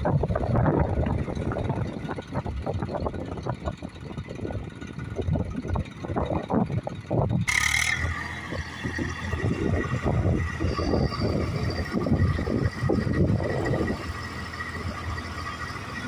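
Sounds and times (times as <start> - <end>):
steady high whine: 0.0 - 16.0
tractor diesel engine under load: 0.0 - 16.0.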